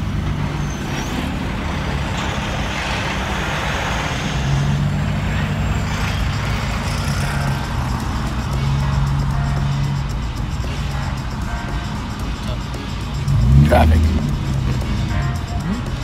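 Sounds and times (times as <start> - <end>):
car road noise: 0.0 - 16.0.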